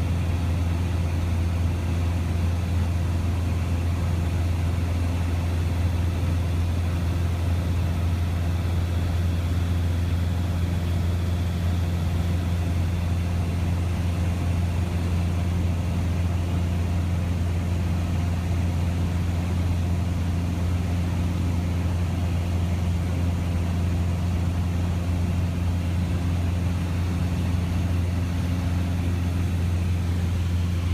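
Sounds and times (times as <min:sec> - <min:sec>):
light aircraft engine droning: 0:00.0 - 0:30.9.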